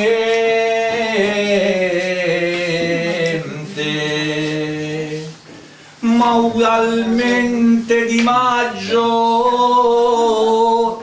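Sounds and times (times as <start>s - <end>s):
man singing unaccompanied: 0.0s - 5.4s, 6.0s - 11.0s.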